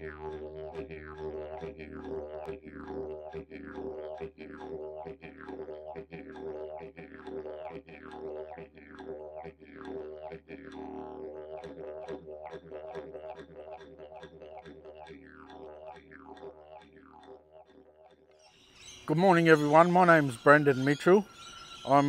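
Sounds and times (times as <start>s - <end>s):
didgeridoo drone: 0.0s - 18.2s.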